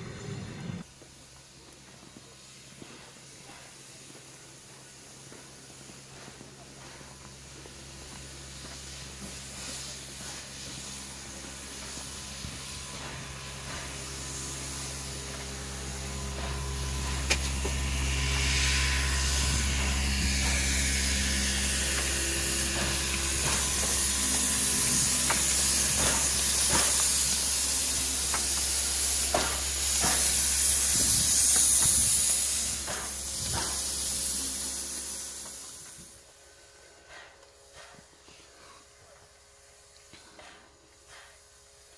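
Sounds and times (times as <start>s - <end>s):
steam locomotive hissing steam: 0.0s - 41.9s
steady low hum: 2.7s - 41.8s.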